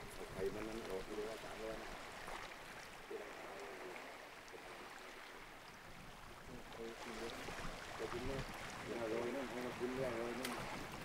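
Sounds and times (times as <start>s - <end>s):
faint seawater wash: 0.0s - 11.0s.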